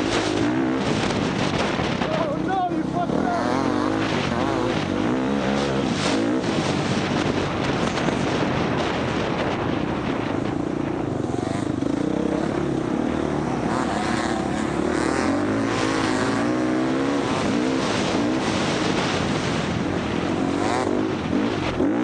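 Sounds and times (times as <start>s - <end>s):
dirt bike engine revving: 0.0s - 22.0s
knobby tyres on ground: 0.0s - 22.0s
wind noise: 0.0s - 22.0s.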